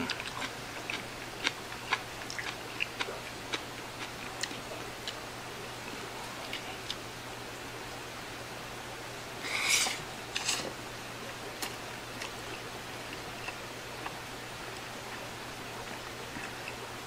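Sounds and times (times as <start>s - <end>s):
man chewing food: 0.0s - 5.2s, 5.8s - 7.0s, 9.5s - 17.0s.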